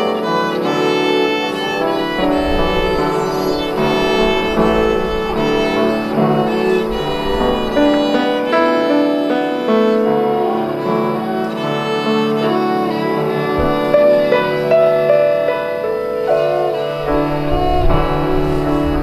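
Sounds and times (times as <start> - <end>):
violin cello and piano trio: 0.0 - 19.0.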